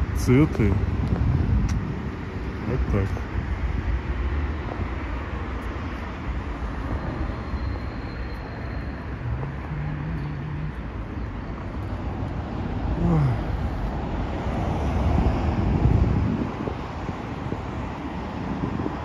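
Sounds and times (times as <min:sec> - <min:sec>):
distant road traffic hum: 0:00.0 - 0:19.0.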